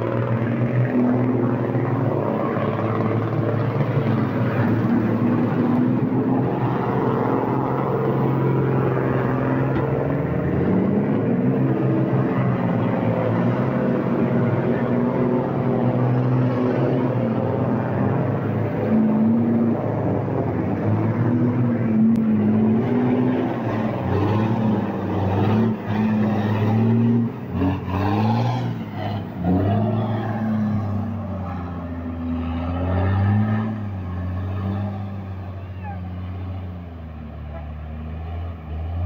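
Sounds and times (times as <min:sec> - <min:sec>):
truck diesel engine labouring: 0:00.0 - 0:39.0.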